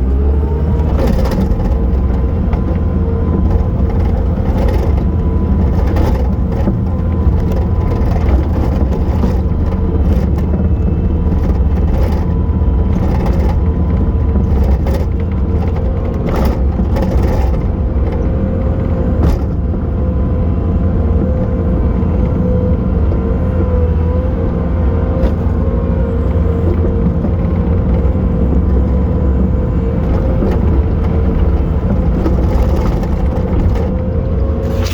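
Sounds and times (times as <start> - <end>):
diesel engine whining: 0.0 - 34.9.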